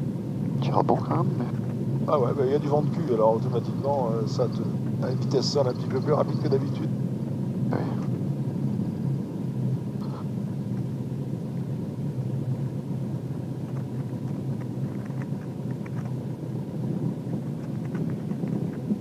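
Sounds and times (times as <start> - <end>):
plane piston engine idling: 0.0 - 19.0.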